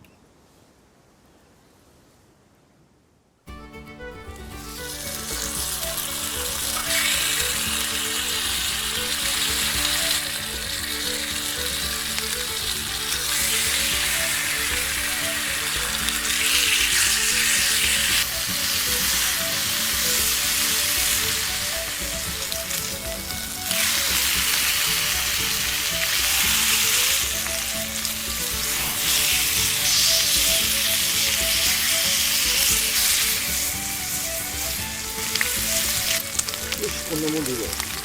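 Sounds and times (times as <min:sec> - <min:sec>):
bacon sizzling in a pan: 0:04.6 - 0:38.0.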